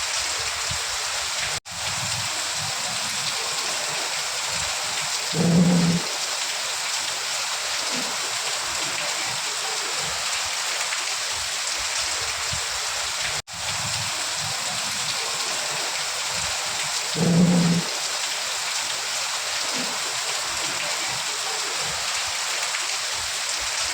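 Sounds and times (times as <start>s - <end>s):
steady rain falling: 0.0s - 23.9s.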